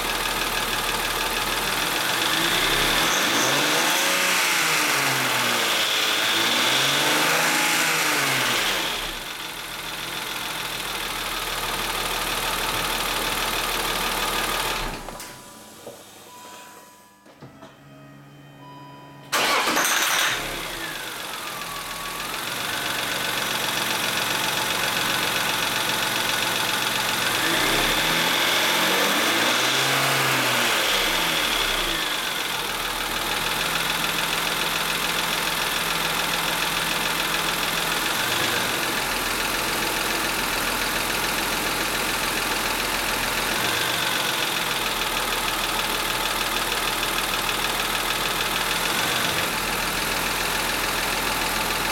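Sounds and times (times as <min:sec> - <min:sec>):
car engine starting and idling: 0:00.0 - 0:16.4, 0:18.6 - 0:51.9.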